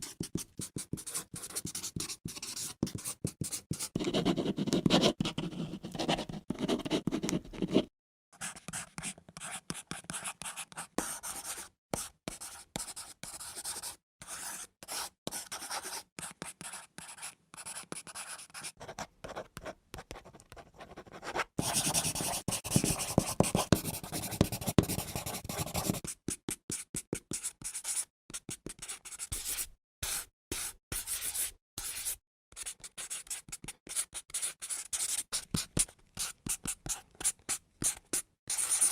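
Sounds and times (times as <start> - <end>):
pencil writing on paper: 0.0 - 38.9.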